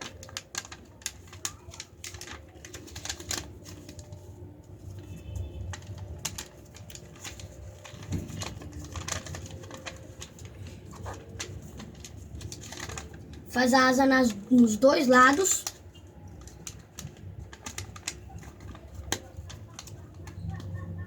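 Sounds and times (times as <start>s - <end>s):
paper being folded: 0.0s - 21.0s.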